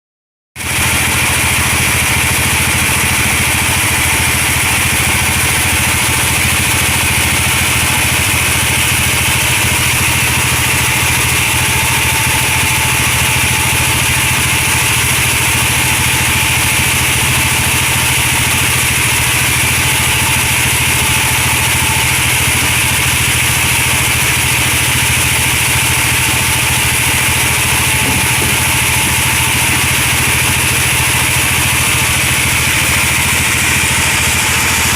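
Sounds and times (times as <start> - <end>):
bandsaw whine and hiss: 0.6 - 34.9
engine hum: 0.6 - 34.9.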